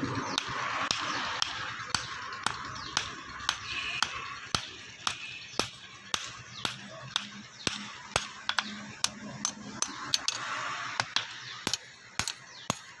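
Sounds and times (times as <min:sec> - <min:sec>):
hammer striking metal on anvil: 0:00.3 - 0:13.0.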